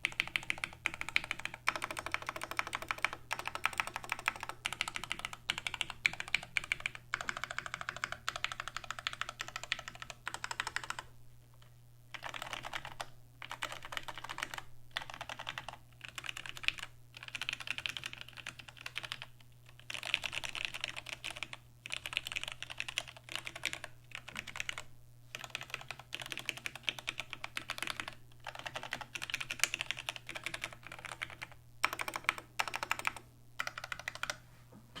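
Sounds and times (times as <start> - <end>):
fast typing on mechanical keyboard: 0.0 - 11.1, 12.1 - 34.4.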